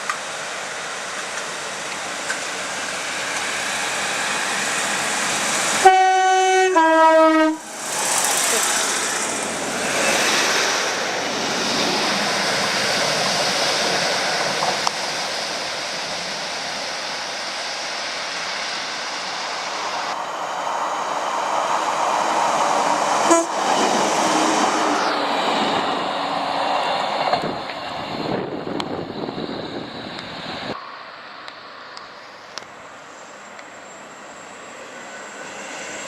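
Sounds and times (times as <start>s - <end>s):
train rushing past: 0.0s - 36.0s.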